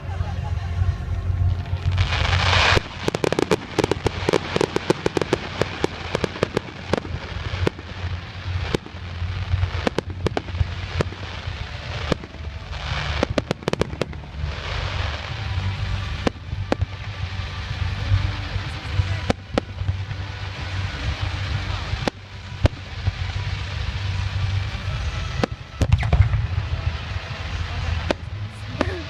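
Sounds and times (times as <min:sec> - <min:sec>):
fireworks crackling bangs: 0:00.0 - 0:29.0
fireworks hissing: 0:00.0 - 0:29.0.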